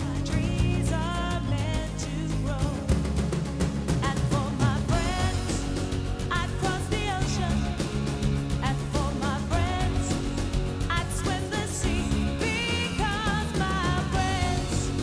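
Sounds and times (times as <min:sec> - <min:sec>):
bass line: 0:00.0 - 0:15.0
pop-rock music: 0:00.0 - 0:15.0
drum beat: 0:02.6 - 0:15.0.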